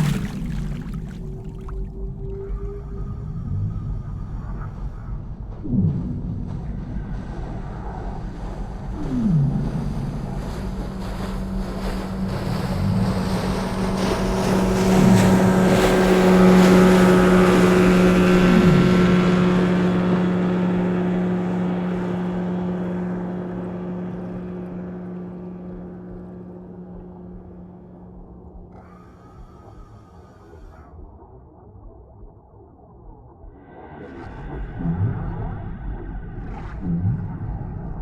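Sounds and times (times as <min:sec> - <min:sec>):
motorboat engine underwater: 0:00.0 - 0:38.0.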